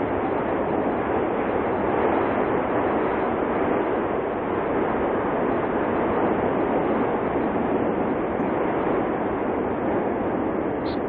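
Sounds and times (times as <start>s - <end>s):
lava fountain rushing: 0.0s - 11.0s.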